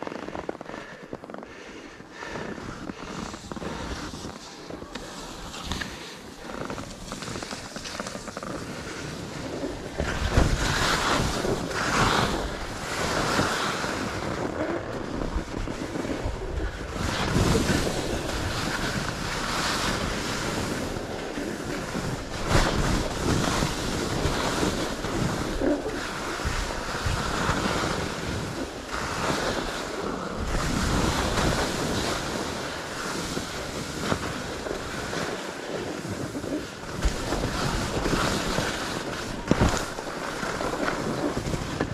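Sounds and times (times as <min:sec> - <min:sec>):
skis scraping over snow: 0:00.0 - 0:41.9
wind rushing over microphone: 0:00.0 - 0:41.9.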